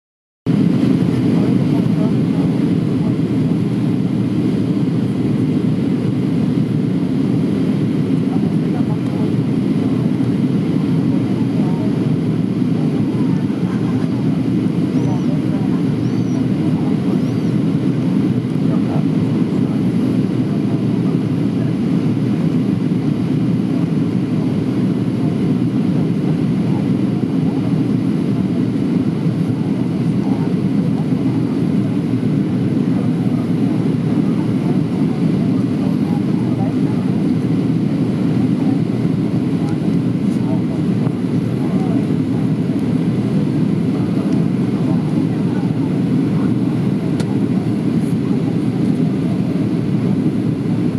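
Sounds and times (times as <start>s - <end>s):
jet engine rumble in cabin: 0.5s - 50.9s.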